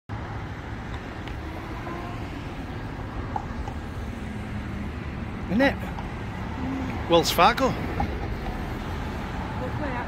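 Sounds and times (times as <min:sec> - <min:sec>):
low urban rumble: 0:00.1 - 0:10.0.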